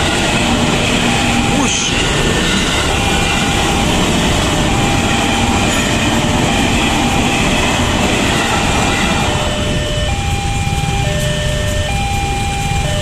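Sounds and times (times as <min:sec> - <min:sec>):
electric train rumbling past: 0:00.0 - 0:13.0
level crossing warning alarm: 0:00.0 - 0:13.0.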